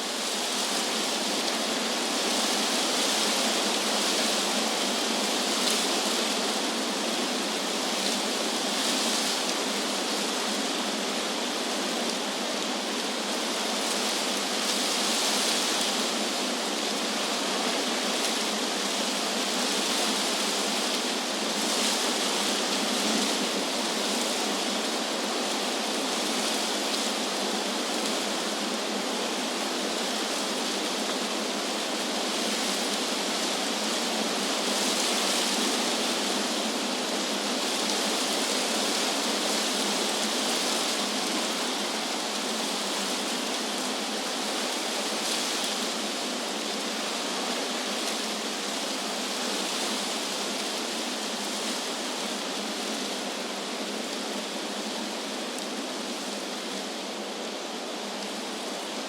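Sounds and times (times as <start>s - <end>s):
wind blowing through trees: 0.0s - 59.0s.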